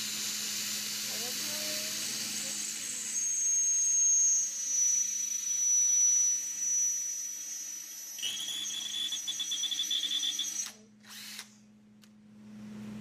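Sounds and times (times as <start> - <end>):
high-pitched drilling whine: 0.0 - 11.5
drill motor hum: 0.0 - 11.6.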